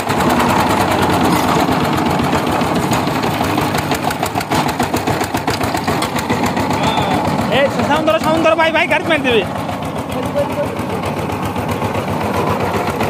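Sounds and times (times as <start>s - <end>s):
tiller diesel engine knocking: 0.0s - 13.0s.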